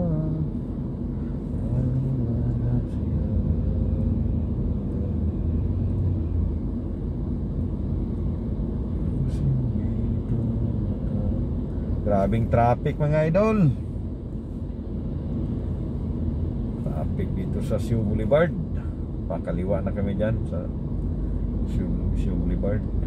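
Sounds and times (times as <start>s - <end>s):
car engine rumble: 0.0s - 23.0s
road noise inside car: 0.0s - 23.0s.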